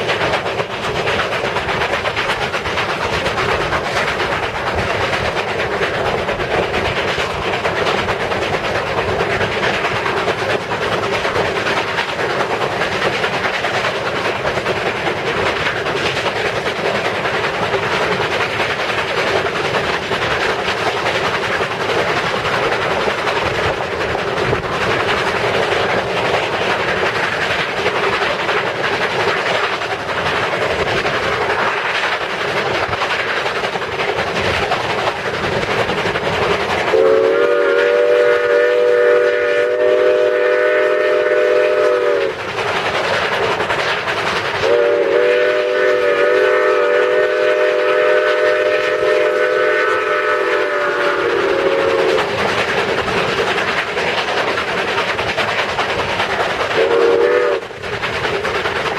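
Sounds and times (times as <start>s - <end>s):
steam locomotive chuffing: 0.0s - 58.9s
wheels clattering on rails: 0.0s - 58.9s.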